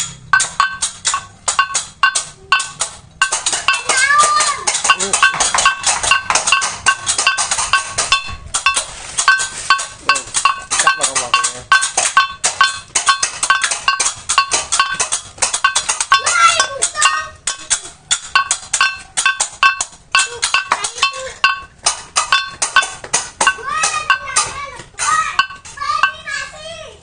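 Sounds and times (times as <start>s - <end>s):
small hand cymbals clashing: 0.0s - 26.6s.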